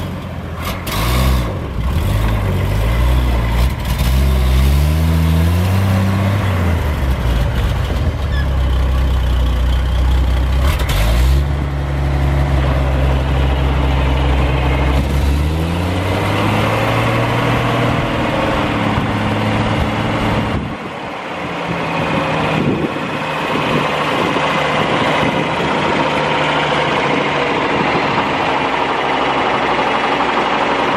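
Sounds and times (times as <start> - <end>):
truck engine revving and idling: 0.0 - 30.9.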